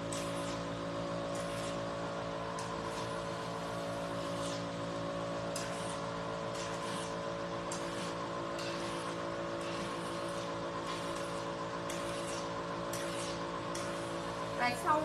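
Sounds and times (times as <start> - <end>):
machine pump humming: 0.0 - 15.0.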